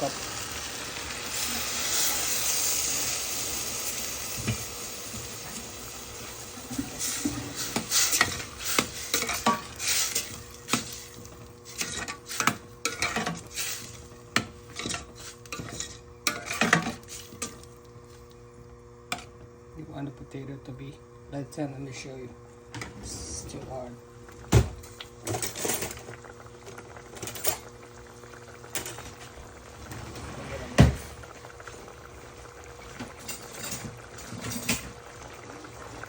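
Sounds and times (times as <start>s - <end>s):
water sizzling on hot pot: 0.0s - 18.3s, 24.3s - 36.0s.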